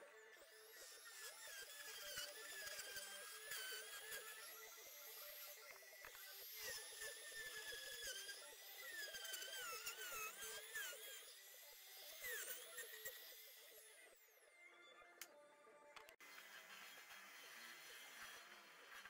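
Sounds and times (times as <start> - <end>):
trim router whining: 0.0 - 19.0.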